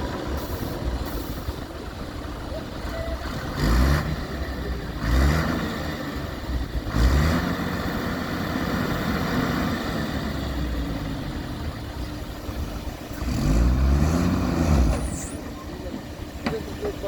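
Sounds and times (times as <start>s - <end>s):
diesel engine revving: 0.0s - 17.0s.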